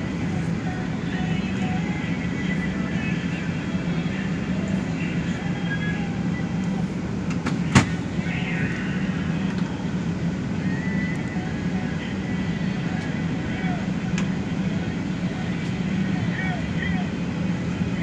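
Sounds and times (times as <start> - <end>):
bus engine hum: 0.0 - 18.0
road noise: 0.0 - 18.0.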